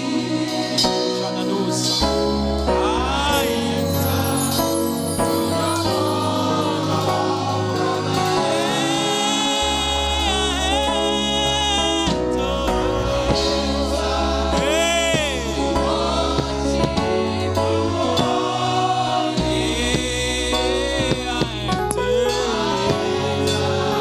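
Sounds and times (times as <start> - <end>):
band playing: 0.0 - 24.0
bass line: 0.0 - 24.0
group singing: 0.0 - 24.0.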